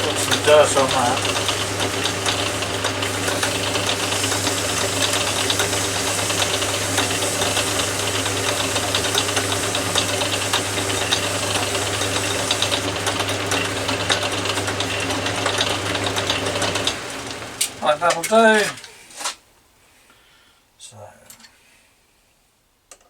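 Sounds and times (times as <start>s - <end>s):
metal lathe humming: 0.0s - 18.8s
ticking and scraping: 0.0s - 19.4s.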